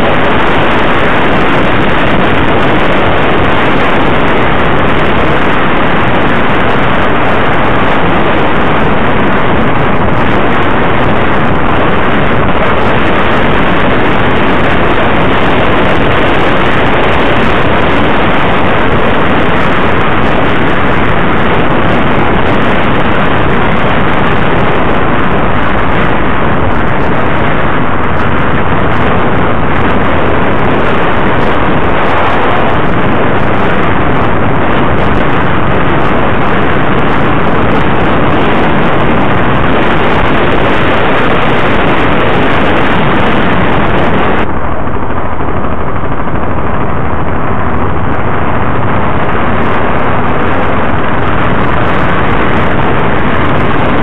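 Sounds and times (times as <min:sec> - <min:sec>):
motorcycle riding roar: 0:00.0 - 0:54.0.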